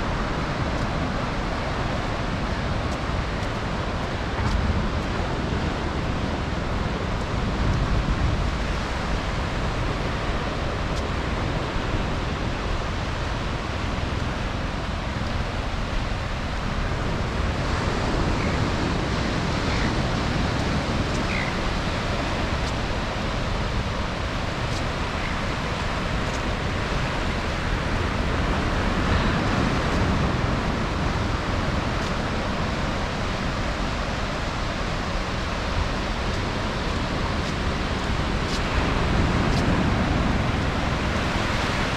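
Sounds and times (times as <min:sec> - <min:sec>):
ocean surf washing: 0:00.0 - 0:41.9
wind on microphone: 0:00.0 - 0:41.9.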